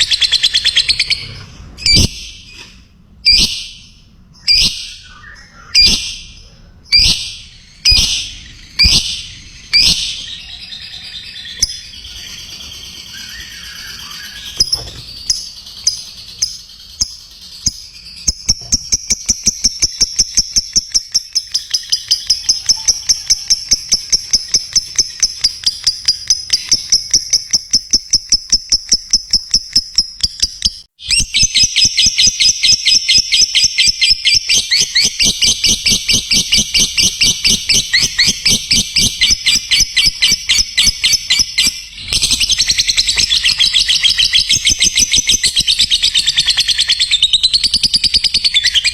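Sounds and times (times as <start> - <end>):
bird shrill chirping: 0.0 - 48.9.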